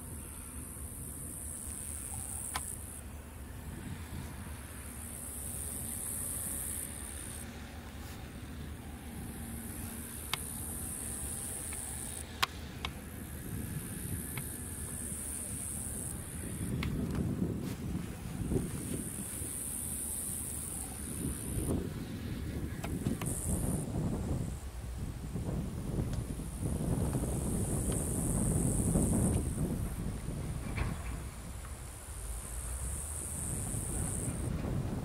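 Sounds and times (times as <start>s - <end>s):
insects chirring: 0.0s - 35.0s
steady low rumble: 0.0s - 35.0s.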